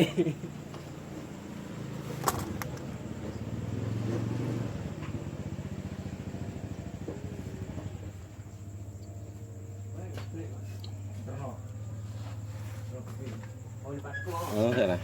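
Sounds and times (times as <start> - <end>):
motorcycle engine idling: 0.4 - 14.1.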